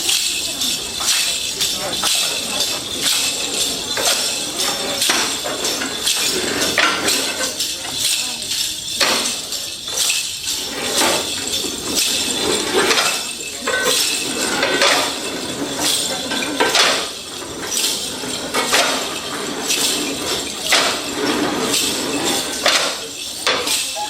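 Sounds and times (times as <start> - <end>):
tambourine-like jangle: 0.0 - 24.0.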